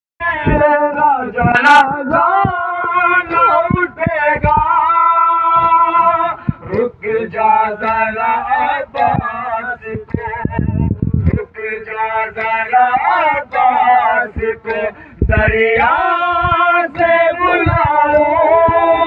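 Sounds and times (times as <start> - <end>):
low thumps: 0.3 - 8.2, 8.9 - 19.0.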